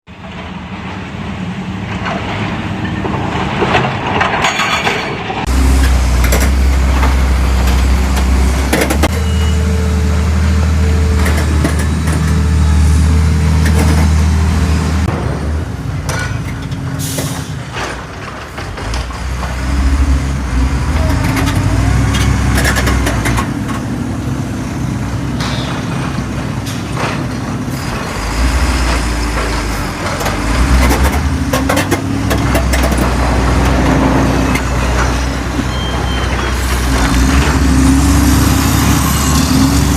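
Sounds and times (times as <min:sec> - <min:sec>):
diesel truck engines droning: 0:00.1 - 0:39.9.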